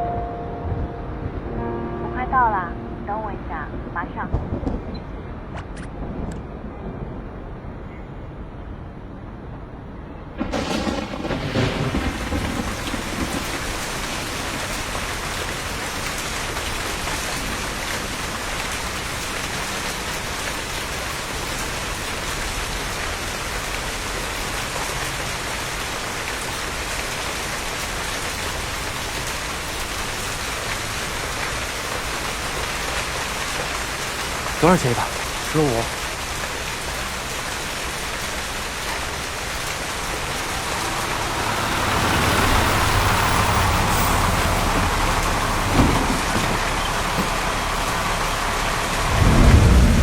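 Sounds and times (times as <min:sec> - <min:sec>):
heavy rain pouring: 0:00.0 - 0:07.8, 0:08.9 - 0:50.0
thunder clap and rumble: 0:00.6 - 0:01.6, 0:03.6 - 0:07.8, 0:09.4 - 0:50.0.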